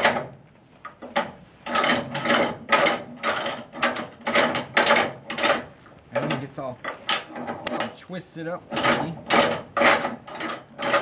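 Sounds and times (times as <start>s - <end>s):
winch pawl ratcheting: 0.0s - 11.0s.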